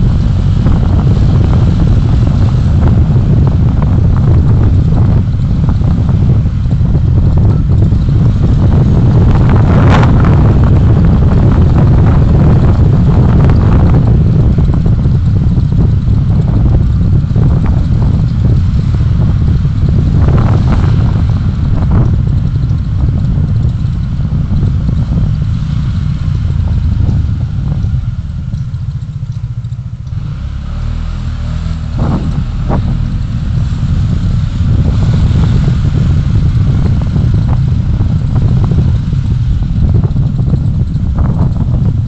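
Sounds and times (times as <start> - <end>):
engine and road rumble: 0.0 - 42.0
wind buffeting microphone: 0.0 - 42.0.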